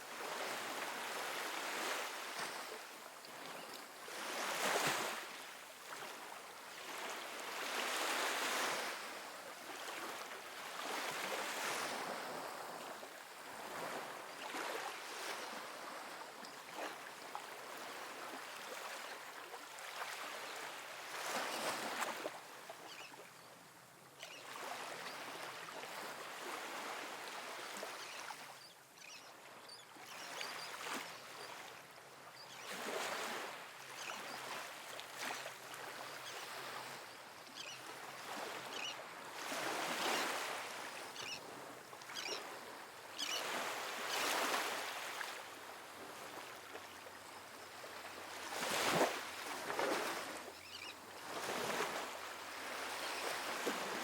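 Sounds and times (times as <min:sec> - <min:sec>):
waves breaking on beach: 0:00.0 - 0:23.0, 0:32.6 - 0:54.0.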